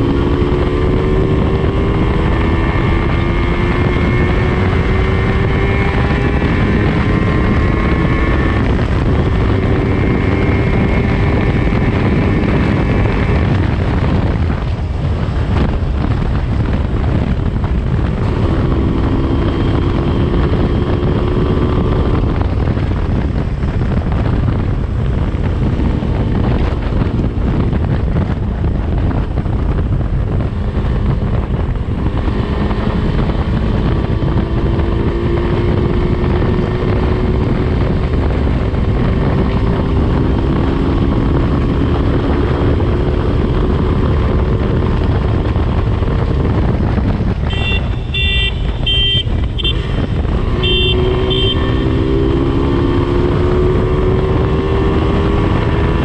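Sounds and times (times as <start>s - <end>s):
two-stroke motorcycle engine: 0.0s - 56.0s
wind rumble on microphone: 0.0s - 56.0s.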